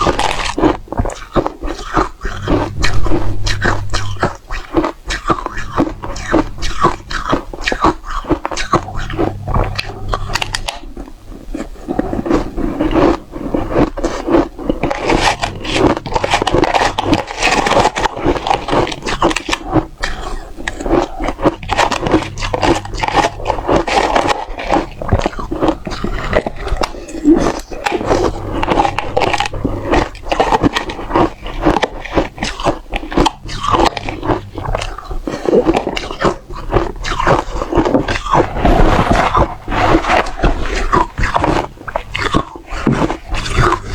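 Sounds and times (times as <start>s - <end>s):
ice cubes being crunched: 0.0s - 9.1s, 13.8s - 43.9s
chewing: 0.0s - 43.9s.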